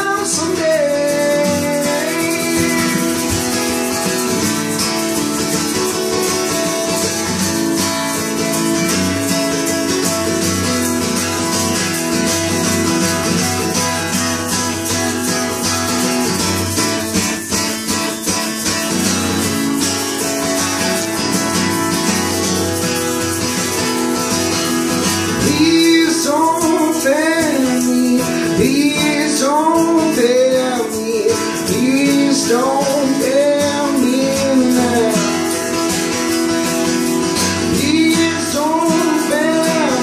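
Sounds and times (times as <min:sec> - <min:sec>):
strummed acoustic guitar: 0:00.0 - 0:40.0.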